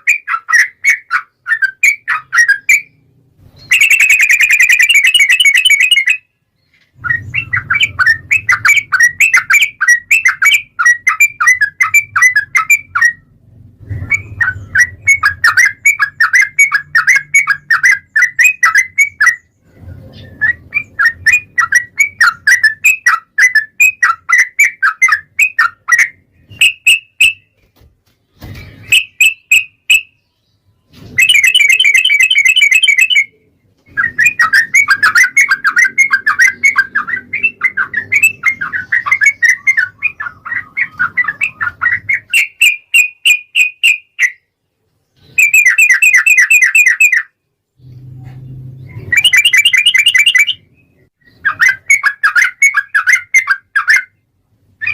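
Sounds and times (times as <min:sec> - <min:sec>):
bulbul singing: 0:00.0 - 0:27.6, 0:28.4 - 0:44.6, 0:45.2 - 0:47.9, 0:48.8 - 0:54.2.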